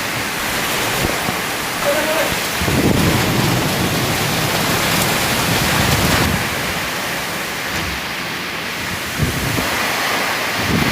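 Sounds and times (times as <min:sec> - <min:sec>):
hail and heavy rain pouring: 0:00.0 - 0:10.9
wind rumbling on microphone: 0:00.0 - 0:10.9.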